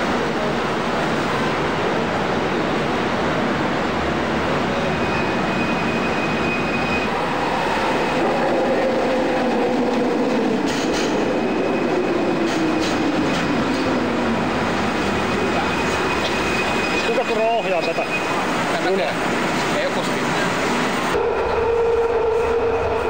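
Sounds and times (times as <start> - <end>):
monorail train running: 0.0 - 23.0.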